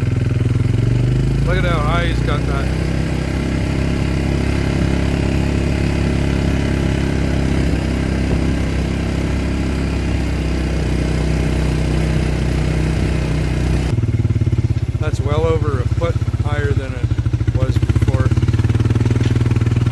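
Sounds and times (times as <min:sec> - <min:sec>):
tractor engine under load: 0:00.0 - 0:19.9.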